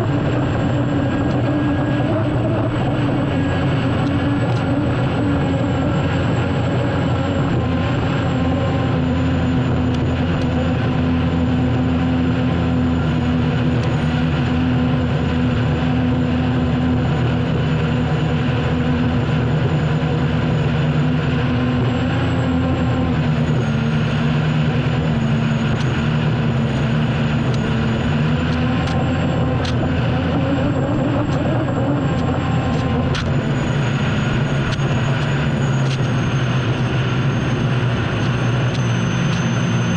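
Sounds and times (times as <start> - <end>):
turbine engine drone and whine: 0.0 - 39.9.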